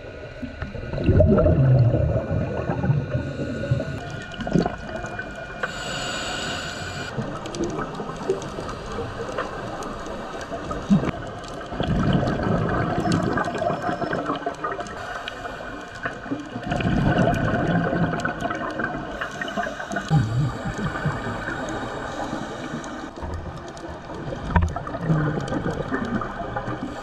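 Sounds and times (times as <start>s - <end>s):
scuba exhaust bubbles rumbling: 0.0s - 27.0s
underwater crackling ticks: 2.5s - 27.0s.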